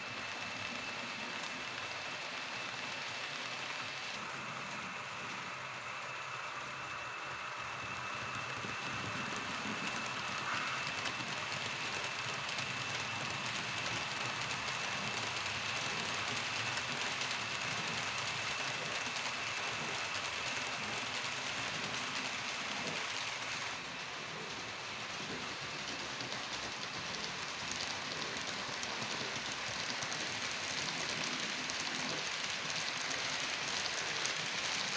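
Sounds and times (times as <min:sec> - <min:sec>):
model train running on rails: 0:00.0 - 0:34.9.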